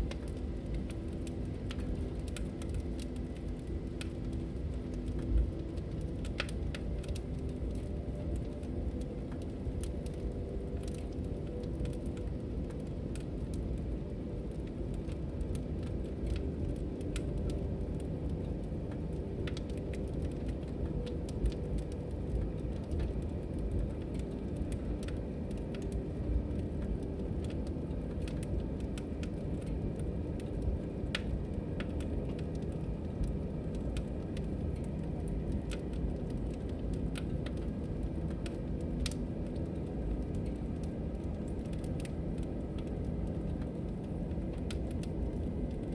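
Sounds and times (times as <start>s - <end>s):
log fire crackling: 0.0s - 45.9s
low rumble of burning: 0.0s - 45.9s.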